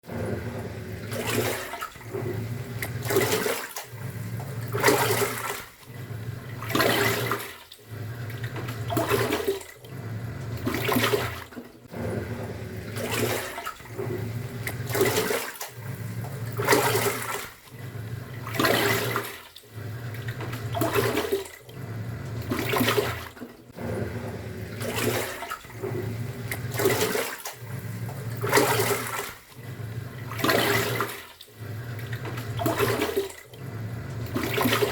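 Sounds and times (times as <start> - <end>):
washing machine motor humming: 0.0 - 34.9
water churning and sloshing: 0.0 - 34.9.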